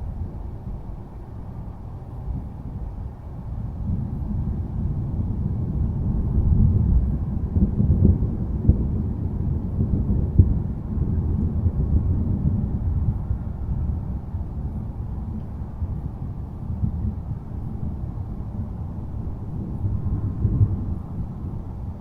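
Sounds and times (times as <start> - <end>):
rolling thunder rumble: 2.1 - 22.0.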